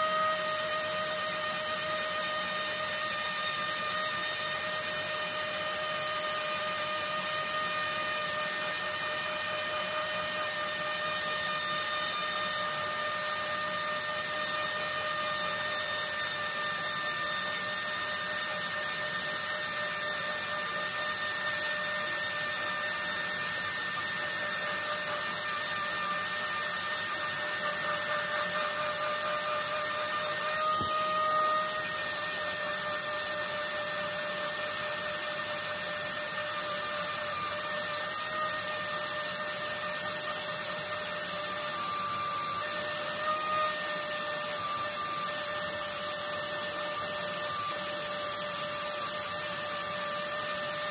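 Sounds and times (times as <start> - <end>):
air pen buzzing: 0.0 - 50.9.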